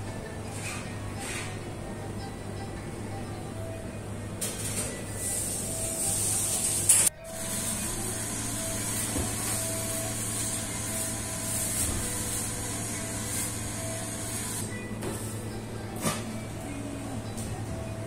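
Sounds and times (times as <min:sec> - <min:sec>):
low electrical hum: 0:00.0 - 0:18.0
oven fan whirring: 0:00.0 - 0:18.0.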